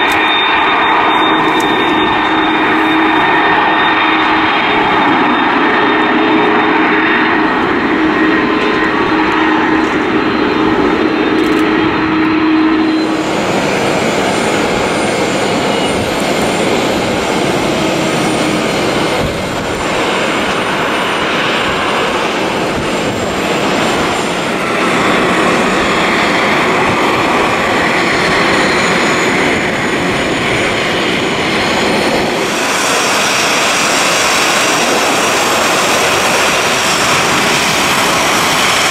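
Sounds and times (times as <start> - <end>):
jet engine whine taxiing: 0.0 - 38.9
jet landing roar: 0.0 - 38.9.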